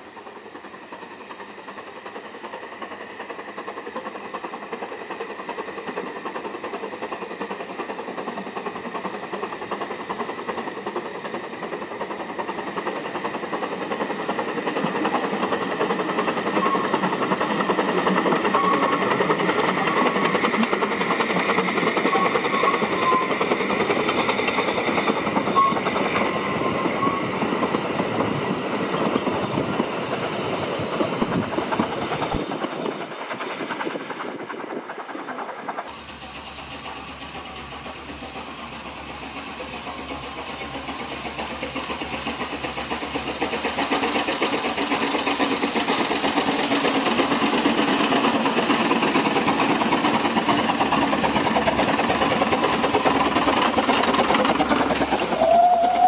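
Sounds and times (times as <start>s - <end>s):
steam locomotive exhaust: 0.0s - 56.0s.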